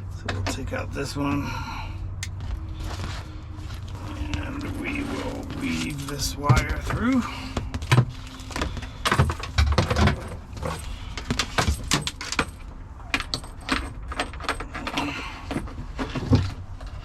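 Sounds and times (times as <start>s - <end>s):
wiring clicking and rattling: 2.2s - 17.0s.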